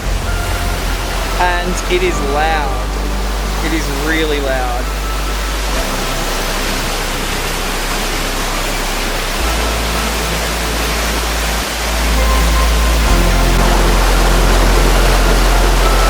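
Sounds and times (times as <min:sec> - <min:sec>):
low bass music: 0:00.0 - 0:16.0
waterfall rushing: 0:00.0 - 0:16.0.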